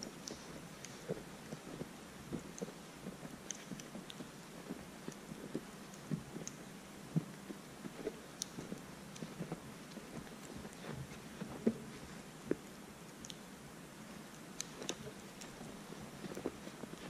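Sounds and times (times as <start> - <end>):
footsteps crunching in snow: 0.0 - 6.5, 7.2 - 12.6, 14.8 - 17.0.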